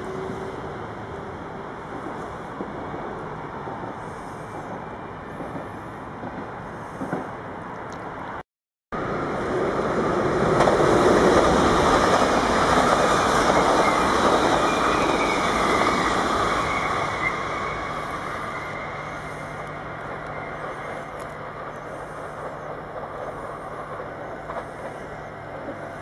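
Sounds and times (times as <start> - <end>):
train passing at speed: 0.0 - 8.4, 9.0 - 26.0.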